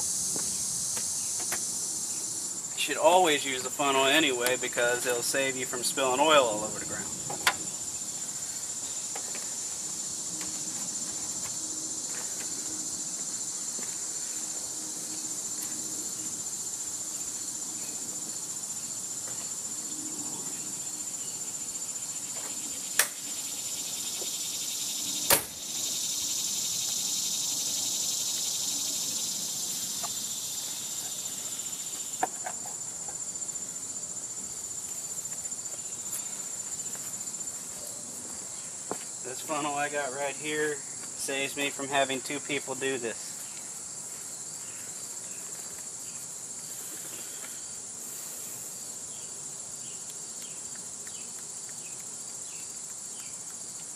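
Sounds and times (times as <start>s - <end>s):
insect chorus trilling: 0.0s - 53.9s.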